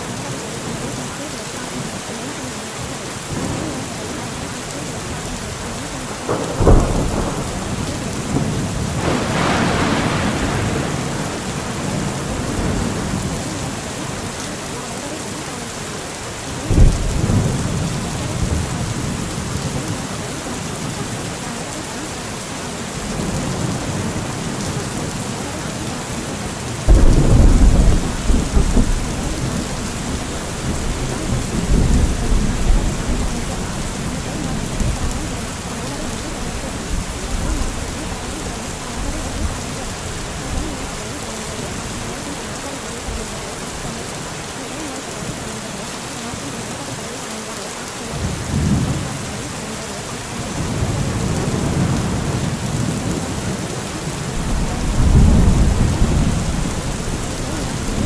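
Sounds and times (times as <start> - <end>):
steady rain: 0.0 - 58.0
thunder rumbling: 3.1 - 46.1, 50.3 - 58.0.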